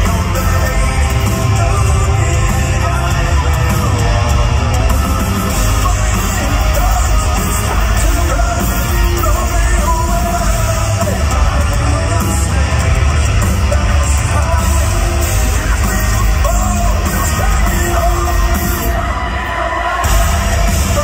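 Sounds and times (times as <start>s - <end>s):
live hard rock band: 0.0s - 21.0s
sung and shouted vocals: 0.0s - 21.0s.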